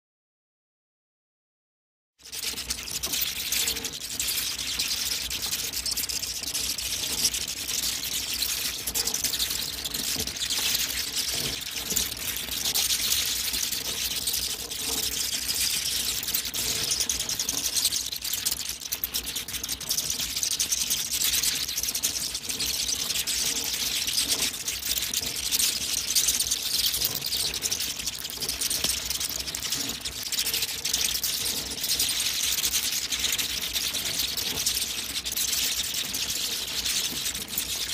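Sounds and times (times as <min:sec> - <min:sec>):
bat colony squeaking and clicking: 0:02.2 - 0:37.9.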